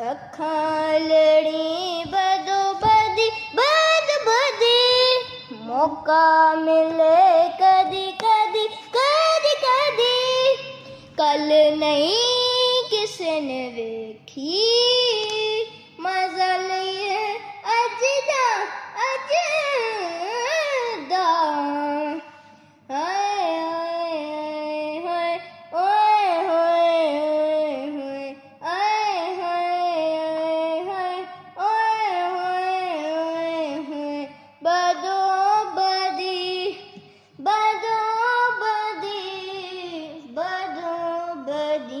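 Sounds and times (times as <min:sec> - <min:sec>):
child singing in high voice: 0:00.0 - 0:42.0.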